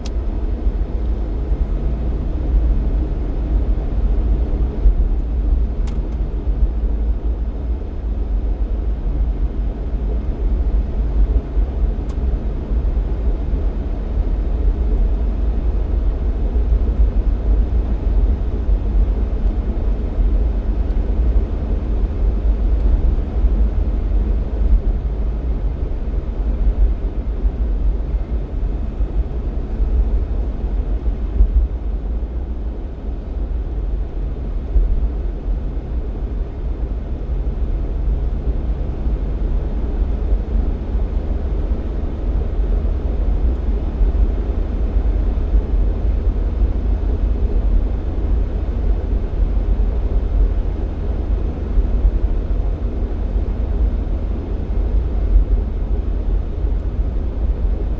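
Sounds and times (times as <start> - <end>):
car engine and road noise: 0.0 - 57.9
faint engine drone: 0.0 - 57.9.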